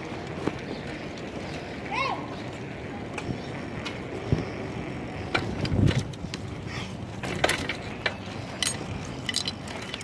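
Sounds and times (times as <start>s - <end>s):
bicycle clicks and rattles: 0.0s - 10.0s.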